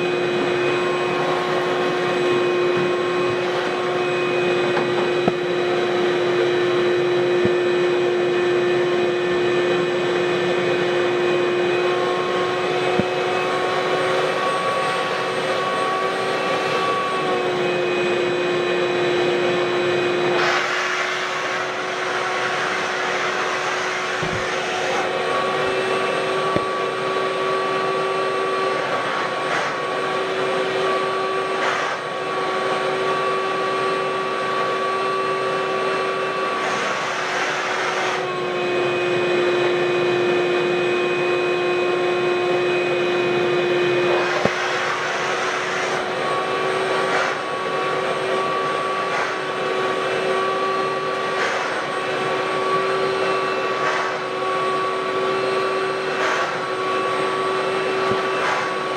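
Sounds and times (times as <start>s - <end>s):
shop vacuum running: 0.0s - 58.9s
vacuum air rushing over carpet: 0.0s - 58.9s.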